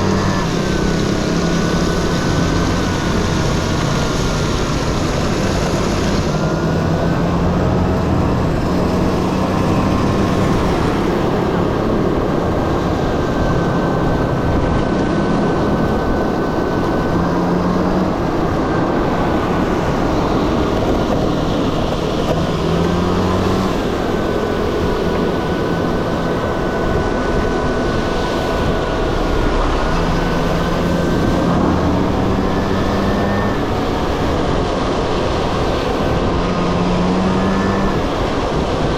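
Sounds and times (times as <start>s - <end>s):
constant rushing noise: 0.0s - 38.9s
high-pitched whine: 0.0s - 38.9s
scooter engine revving: 0.0s - 38.9s.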